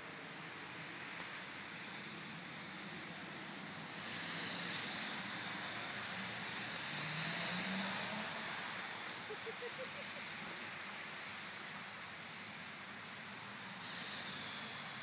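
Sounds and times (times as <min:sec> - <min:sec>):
outdoor rushing noise: 0:00.0 - 0:12.4.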